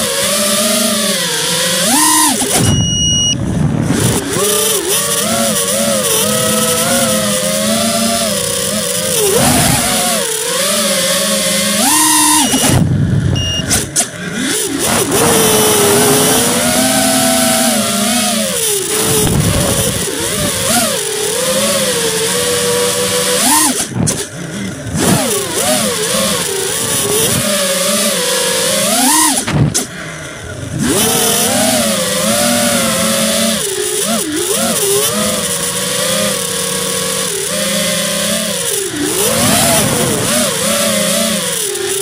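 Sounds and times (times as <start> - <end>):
constant rough noise: 0.0 - 42.0
rc car motor revving: 0.0 - 42.0.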